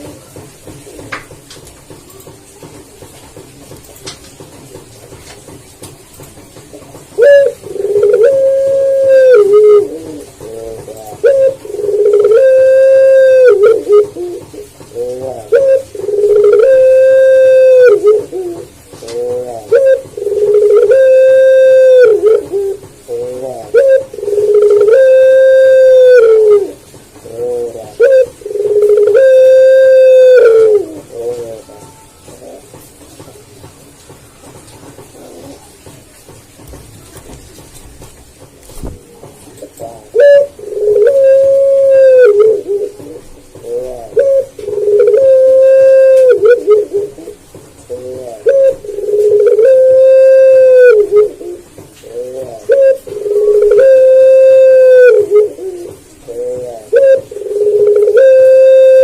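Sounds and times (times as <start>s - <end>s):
dove cooing: 0.0s - 2.3s, 6.6s - 33.6s, 34.4s - 36.2s, 38.8s - 59.0s.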